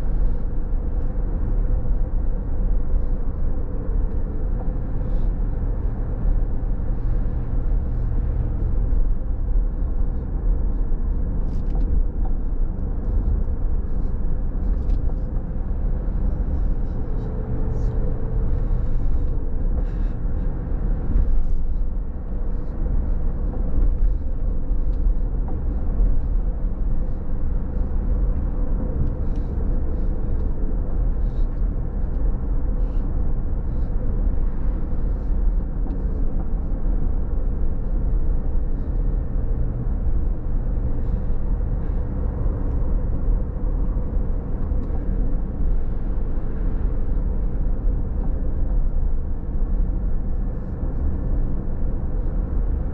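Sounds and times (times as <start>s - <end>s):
faint engine hum: 0.0s - 52.9s.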